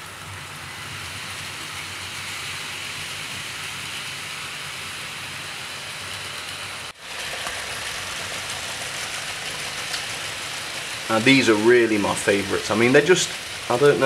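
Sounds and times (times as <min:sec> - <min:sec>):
model train wheels on rails: 0:00.0 - 0:14.0
small electric motors: 0:00.2 - 0:14.0.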